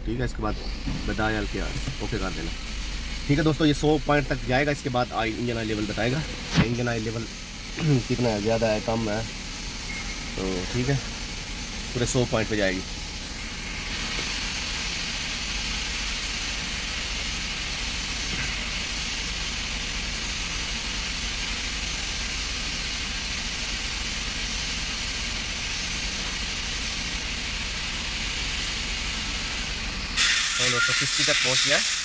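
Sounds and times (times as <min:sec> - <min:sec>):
car engine idling hum: 0:00.0 - 0:30.2
steady hiss: 0:00.0 - 0:32.0.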